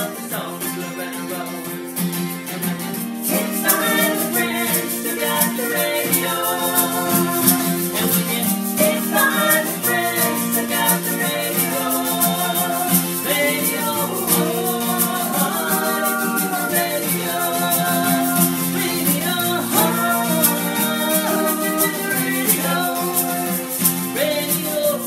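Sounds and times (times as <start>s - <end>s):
acoustic guitars strumming: 0.0s - 25.0s
hand shakers: 0.0s - 25.0s.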